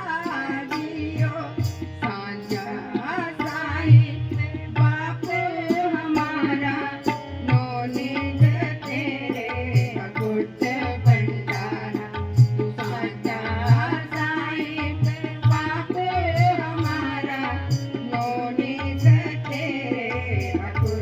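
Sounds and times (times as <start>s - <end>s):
tabla playing a beat: 0.0s - 21.0s.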